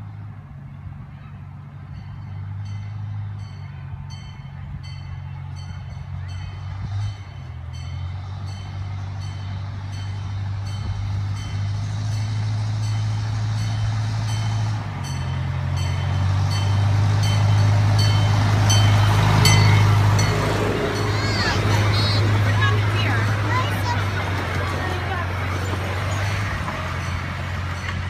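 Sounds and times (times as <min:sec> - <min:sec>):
miniature train engine drone: 0:00.0 - 0:28.0.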